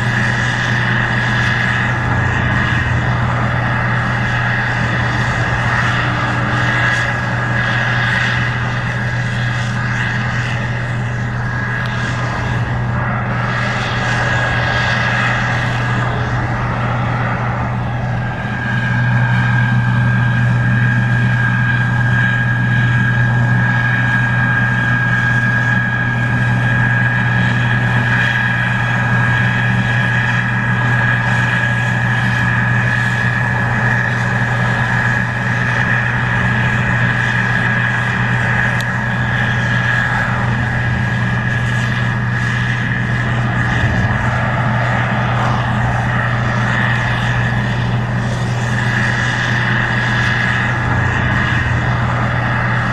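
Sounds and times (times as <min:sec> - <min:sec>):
combine engine drone: 0:00.0 - 0:52.9
high whine: 0:00.0 - 0:52.9.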